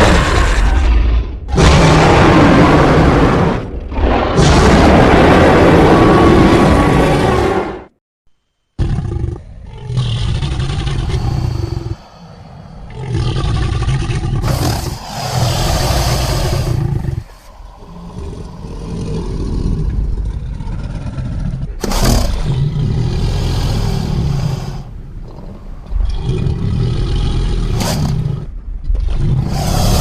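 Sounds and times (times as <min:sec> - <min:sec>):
monster growls and roars: 0:00.0 - 0:07.9, 0:08.8 - 0:30.0.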